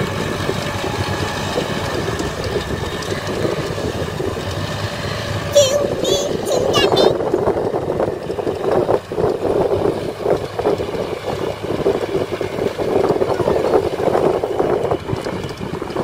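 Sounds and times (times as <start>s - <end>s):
heavy machinery diesel engines: 0.0s - 16.0s.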